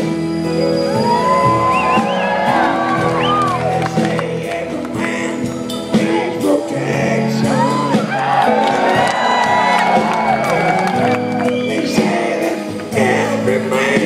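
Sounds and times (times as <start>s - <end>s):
rock band playing ballad: 0.0s - 14.0s
voices singing: 0.0s - 14.0s.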